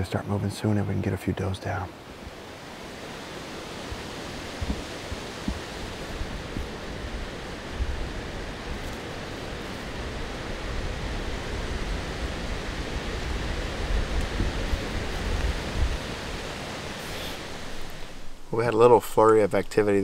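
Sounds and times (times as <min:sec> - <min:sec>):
gusty wind through woods: 0:00.0 - 0:20.0
wind buffeting microphone: 0:02.1 - 0:18.4.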